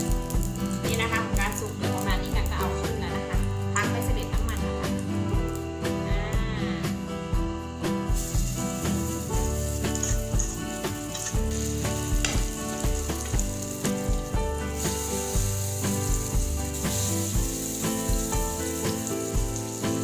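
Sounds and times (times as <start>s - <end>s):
batter sizzling in oil: 0.0s - 5.8s, 7.7s - 20.0s
background music with steady beat: 0.0s - 20.0s.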